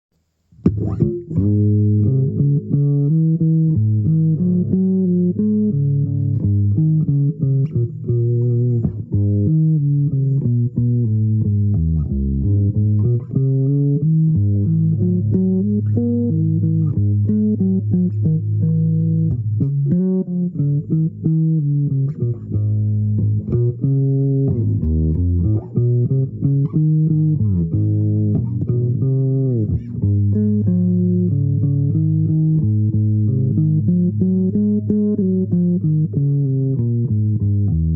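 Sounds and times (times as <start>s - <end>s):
low plucked string melody: 0.6s - 37.9s.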